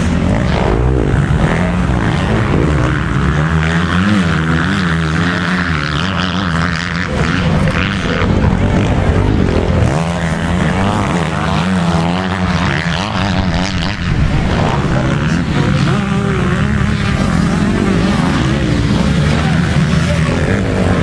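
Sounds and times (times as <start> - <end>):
motorbike engines revving: 0.0 - 21.0.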